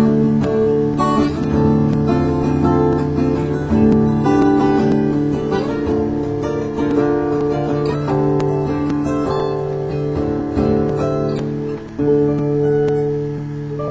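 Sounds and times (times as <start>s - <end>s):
acoustic guitar music: 0.0s - 13.9s.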